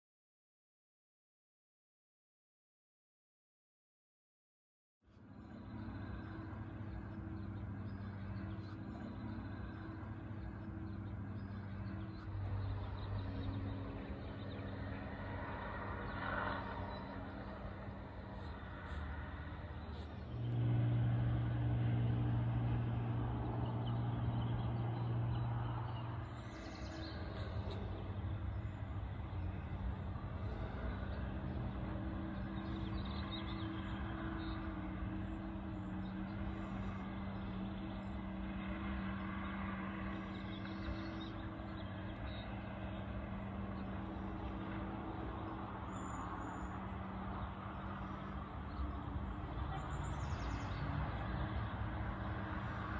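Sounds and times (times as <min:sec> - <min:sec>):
distant diesel engine hum: 0:05.1 - 0:52.9.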